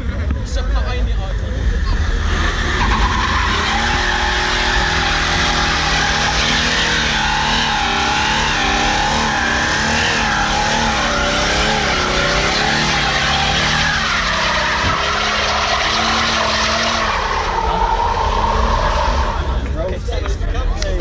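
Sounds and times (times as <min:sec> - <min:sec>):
engine at high revs: 0:01.5 - 0:19.7
tyres squealing: 0:01.8 - 0:19.6.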